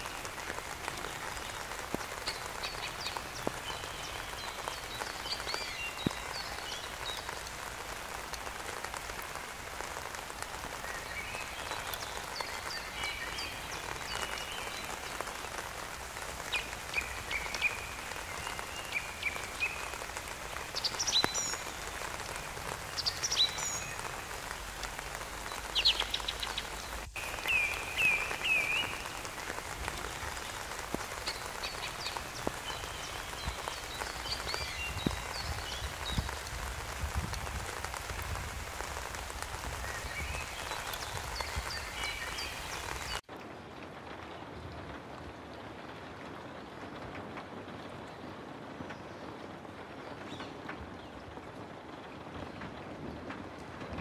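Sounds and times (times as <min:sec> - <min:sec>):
rain pattering on plants: 0:00.0 - 0:54.0.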